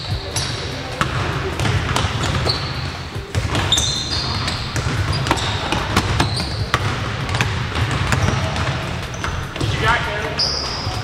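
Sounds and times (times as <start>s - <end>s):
basketballs bouncing on hardwood: 0.0s - 11.0s
sneaker squeaks: 0.0s - 11.0s.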